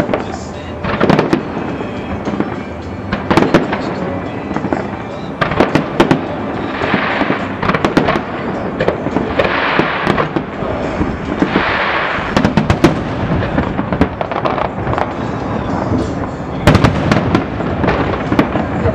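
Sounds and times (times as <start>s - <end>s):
fireworks bangs and crackling: 0.0s - 18.9s.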